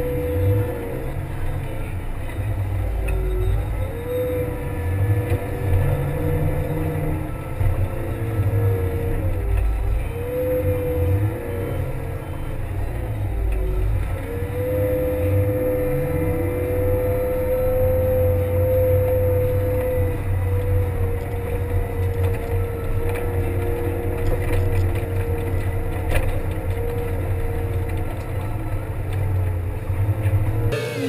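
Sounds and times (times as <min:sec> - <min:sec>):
steady whine: 0:00.0 - 0:31.0
wheel loader diesel engine running: 0:00.0 - 0:31.0.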